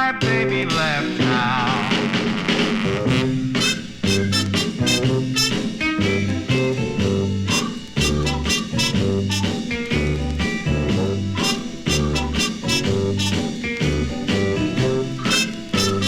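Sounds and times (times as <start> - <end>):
bass line: 0.0 - 16.0
swing-style pop music from vinyl: 0.0 - 16.0
drum strokes: 0.2 - 16.0.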